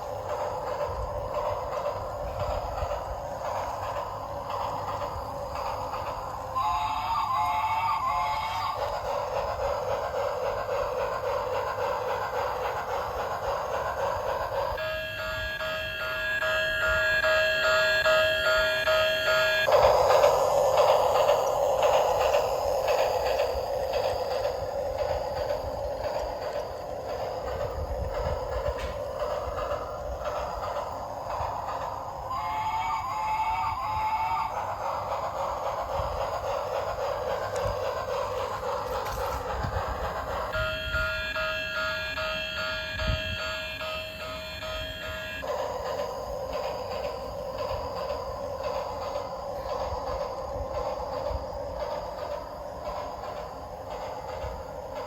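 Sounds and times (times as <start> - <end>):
electronic steam train chugging: 0.0 - 55.0.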